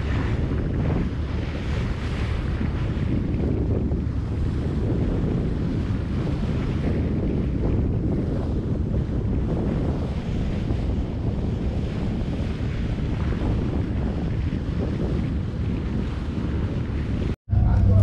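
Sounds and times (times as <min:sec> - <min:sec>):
sea water rushing along boat: 0:00.0 - 0:18.0
wind rumbling on microphone: 0:00.0 - 0:18.0.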